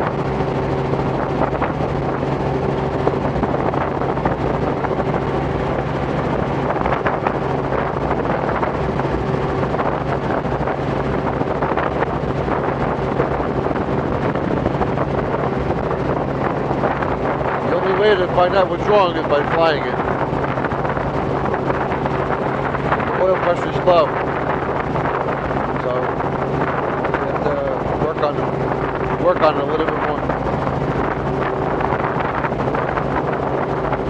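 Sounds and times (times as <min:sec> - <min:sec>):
helicopter engine and rotors: 0:00.0 - 0:34.0
wind noise on microphone: 0:00.0 - 0:34.0.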